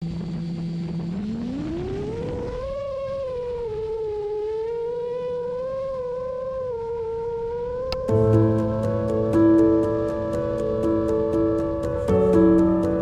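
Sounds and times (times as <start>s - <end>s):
synth tone gliding up: 0.4s - 13.0s.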